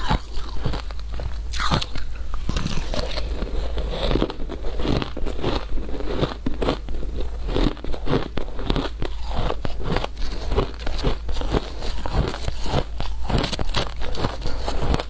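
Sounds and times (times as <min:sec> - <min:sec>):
ice crunching between teeth: 0:00.0 - 0:15.0.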